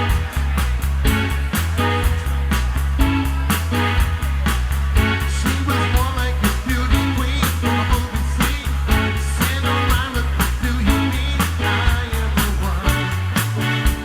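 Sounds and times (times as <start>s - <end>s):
bass line: 0.0s - 14.0s
drums beating: 0.0s - 14.0s
live band playing: 0.0s - 14.0s.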